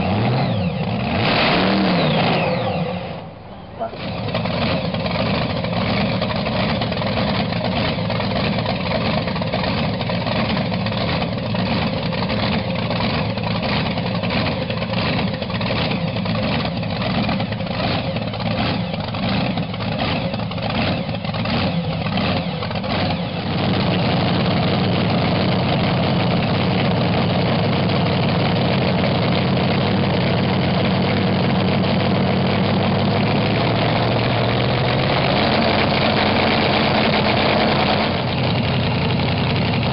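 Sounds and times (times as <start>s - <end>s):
race engine idling unevenly: 0.0s - 39.9s.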